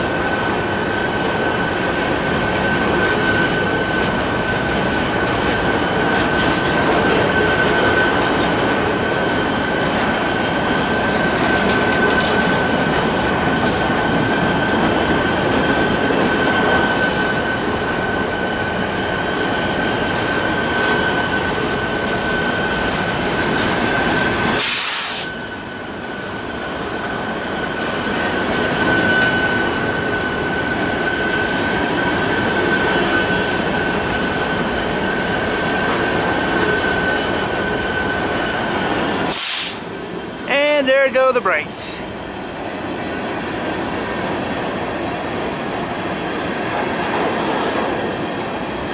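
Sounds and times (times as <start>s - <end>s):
train wheels rumbling and clacking: 0.0s - 40.4s, 42.1s - 48.9s.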